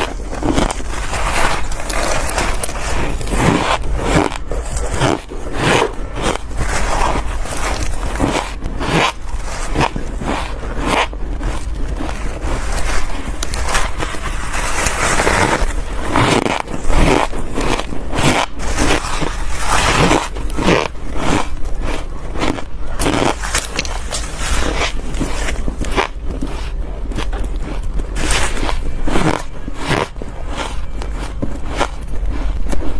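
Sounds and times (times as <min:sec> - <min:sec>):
crunching ice chunks: 0:00.0 - 0:32.9.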